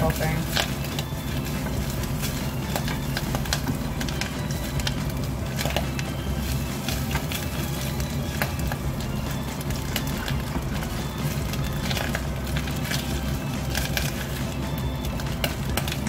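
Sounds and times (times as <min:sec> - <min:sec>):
bacon sizzling and popping: 0:00.0 - 0:16.0
wooden spoon stirring: 0:00.0 - 0:16.0.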